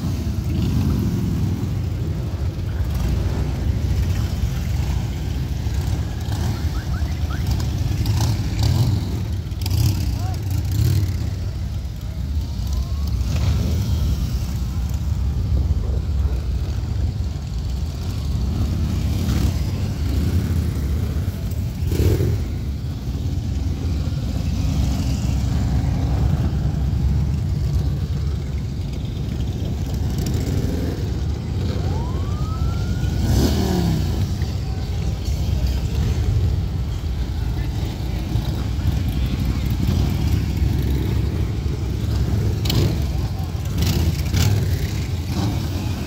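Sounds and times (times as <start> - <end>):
motorcycles rumbling past: 0.0 - 46.0.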